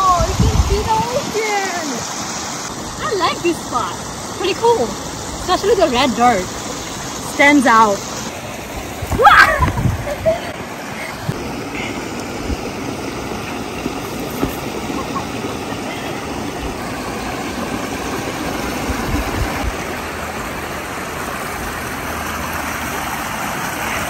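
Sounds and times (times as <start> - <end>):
waterfall splashing: 0.0 - 24.0.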